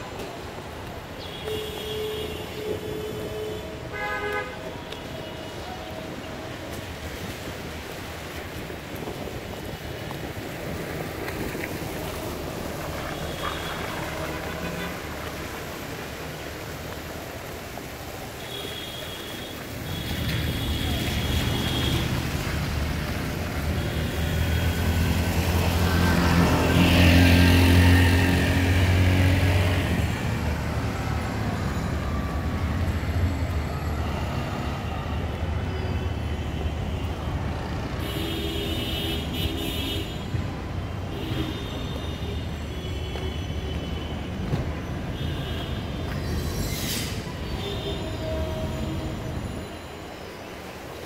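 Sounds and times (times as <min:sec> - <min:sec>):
traffic noise: 0:00.0 - 0:51.0.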